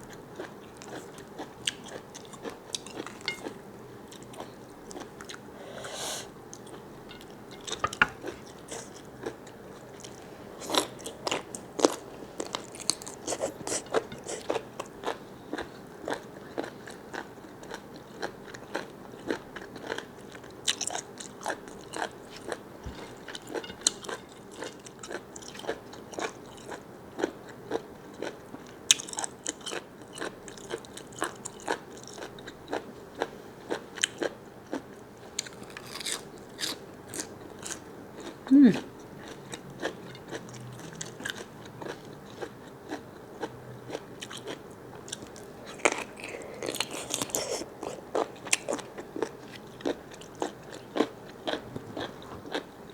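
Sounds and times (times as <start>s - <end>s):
person chewing squid: 0.1s - 5.6s, 6.5s - 52.9s.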